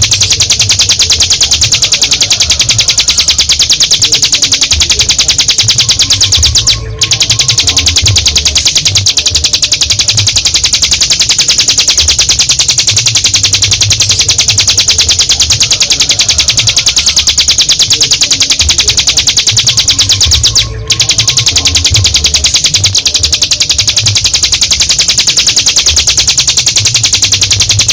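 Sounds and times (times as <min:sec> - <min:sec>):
bird high rapid trill: 0:00.0 - 0:27.9.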